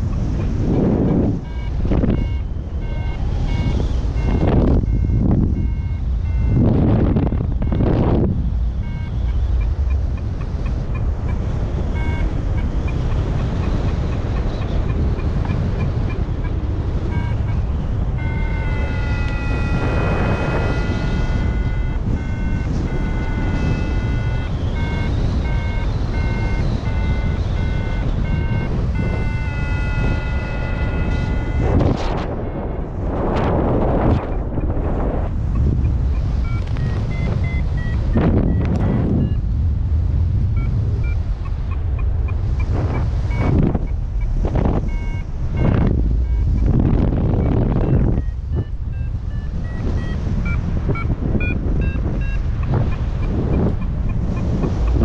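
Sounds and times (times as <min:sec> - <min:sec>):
variometer beeping: 0:00.0 - 0:55.0
wind on microphone: 0:00.0 - 0:55.0.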